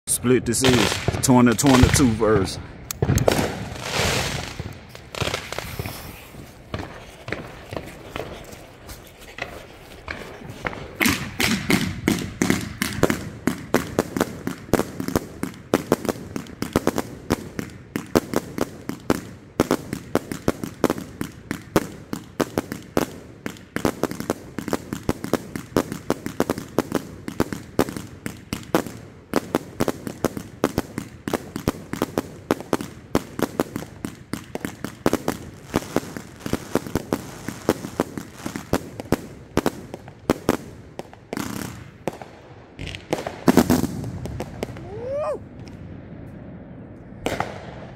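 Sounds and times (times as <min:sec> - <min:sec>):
firework shots firing: 0:00.6 - 0:08.8, 0:09.4 - 0:46.0, 0:47.2 - 0:47.9
firework shells bursting: 0:00.6 - 0:45.8.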